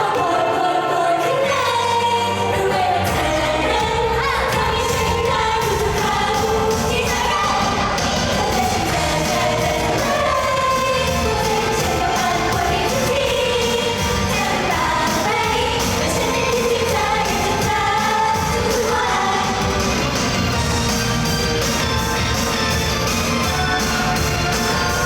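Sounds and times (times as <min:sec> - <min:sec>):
pop song with female singing: 0:00.0 - 0:21.0.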